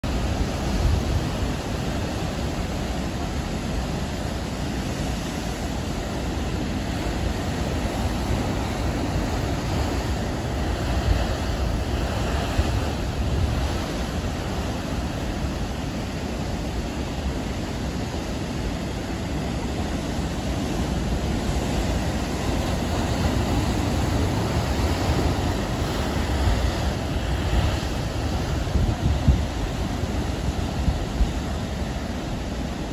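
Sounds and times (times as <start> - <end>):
ocean surf crashing on rocks: 0.0 - 32.9.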